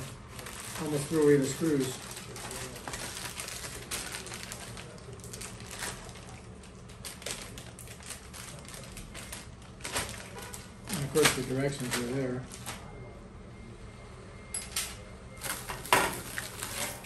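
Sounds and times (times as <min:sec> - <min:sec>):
plastic wrap crinkling: 0:00.0 - 0:12.9, 0:15.4 - 0:17.0.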